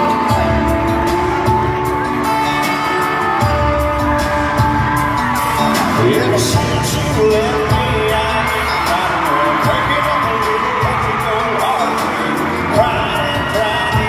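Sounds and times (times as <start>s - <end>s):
acoustic guitar: 0.0s - 14.0s
drums: 0.0s - 14.0s
man singing: 0.0s - 14.0s.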